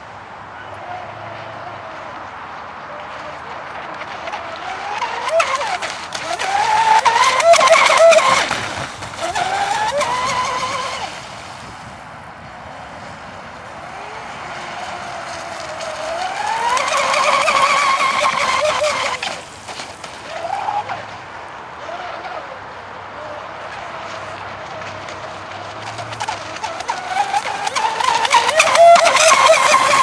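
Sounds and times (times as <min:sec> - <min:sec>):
model boat motor whining: 0:00.0 - 0:30.0.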